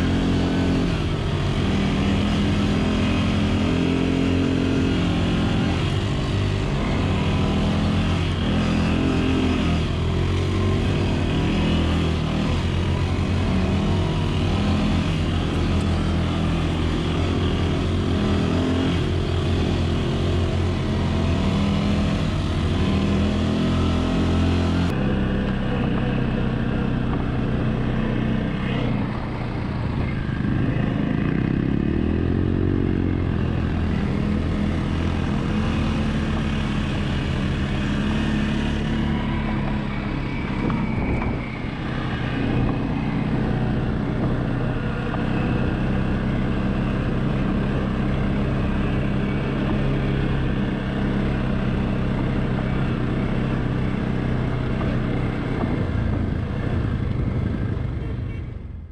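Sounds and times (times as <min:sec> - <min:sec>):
quad engine running: 0:00.0 - 0:58.9.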